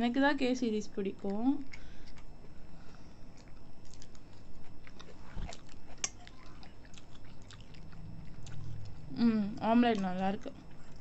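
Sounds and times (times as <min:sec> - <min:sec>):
people chewing: 0:01.3 - 0:11.0.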